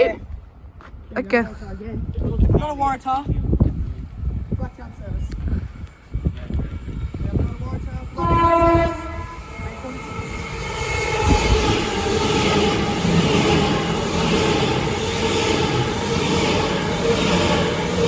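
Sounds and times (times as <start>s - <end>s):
train rumbling past: 1.8s - 18.0s.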